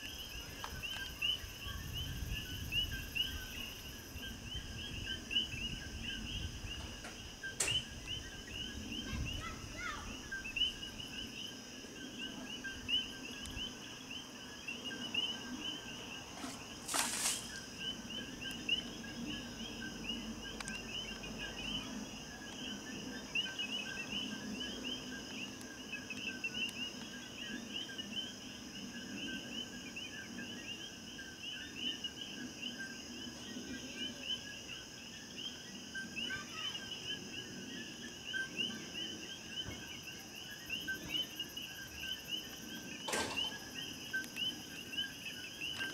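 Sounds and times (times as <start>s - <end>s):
crickets and insects trilling: 0.0s - 45.9s.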